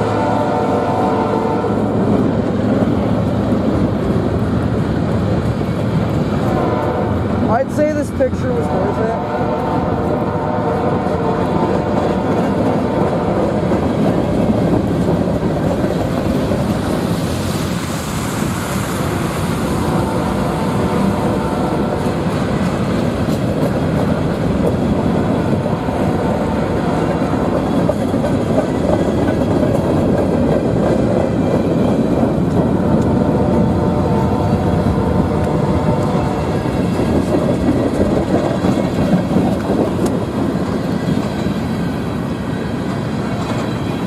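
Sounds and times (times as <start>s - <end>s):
diesel locomotive engines: 0.0s - 44.0s
train wheels rumbling on rails: 0.0s - 44.0s.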